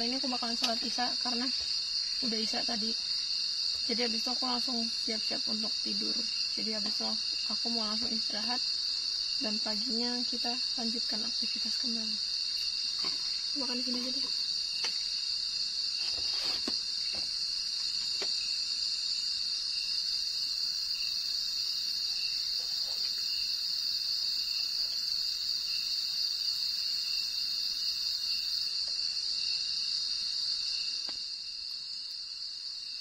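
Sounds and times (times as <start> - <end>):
insect chorus buzzing: 0.0 - 33.0
pulsing insect trill: 0.0 - 33.0.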